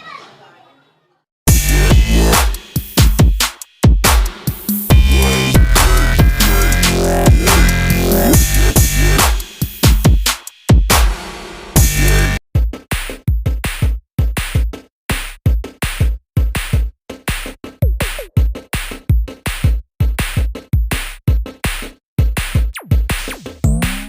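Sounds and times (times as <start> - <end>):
electronic music with drum-machine beat: 1.5 - 11.2, 11.8 - 14.8, 15.5 - 24.0.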